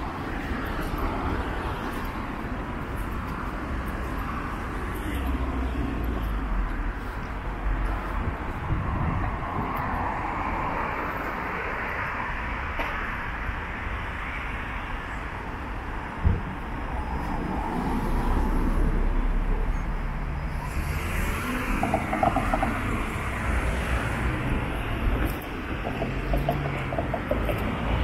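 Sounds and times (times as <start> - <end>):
street traffic hum: 0.0 - 28.0.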